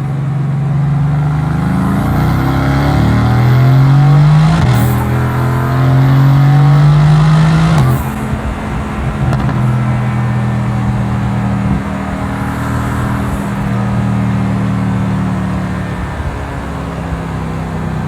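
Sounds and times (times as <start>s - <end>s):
car engine accelerating: 0.0s - 18.0s
gear change crack: 0.0s - 18.0s.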